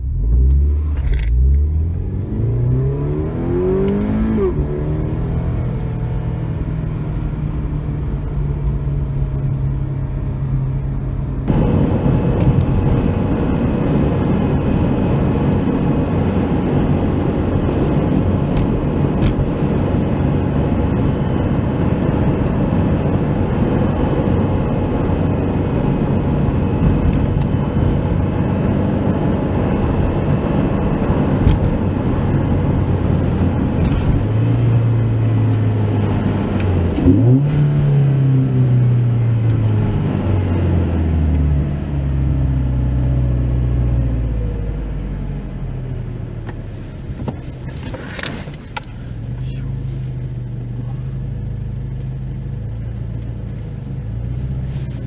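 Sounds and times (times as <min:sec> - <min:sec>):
car engine and exhaust: 0:00.0 - 0:55.0
road rumble: 0:00.0 - 0:55.0.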